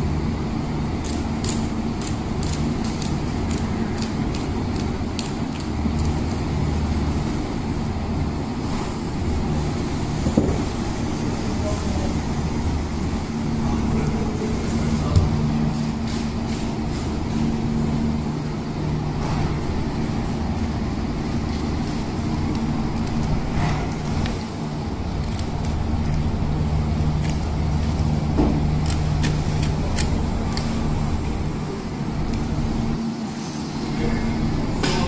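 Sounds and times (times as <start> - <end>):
machinery humming: 0.0 - 35.0.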